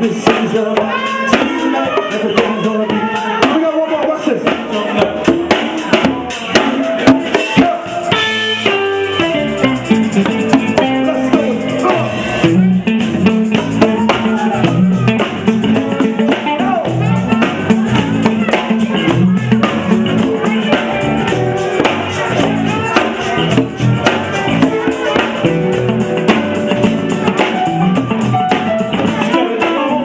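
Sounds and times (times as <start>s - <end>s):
live soul band playing: 0.0s - 30.0s.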